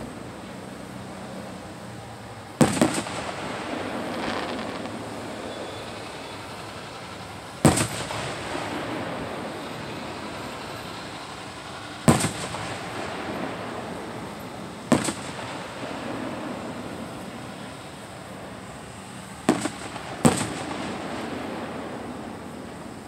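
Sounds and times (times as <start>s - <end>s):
steady background noise: 0.0s - 23.0s
distant firework bangs with echo: 2.6s - 23.0s.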